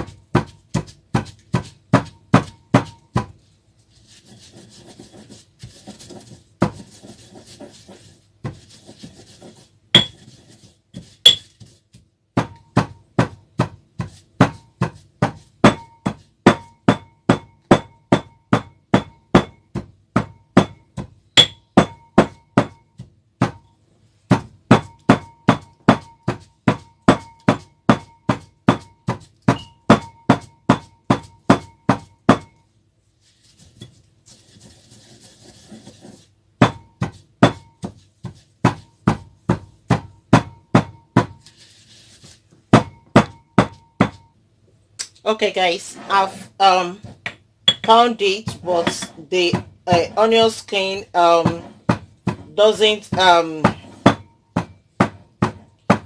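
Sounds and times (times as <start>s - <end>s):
pestle pounding in a mortar: 0.0s - 3.4s, 4.2s - 32.6s, 34.6s - 41.5s, 42.6s - 44.3s, 47.0s - 56.0s
pestle scraping in a mortar: 0.0s - 17.4s, 24.3s - 44.2s, 45.4s - 56.0s.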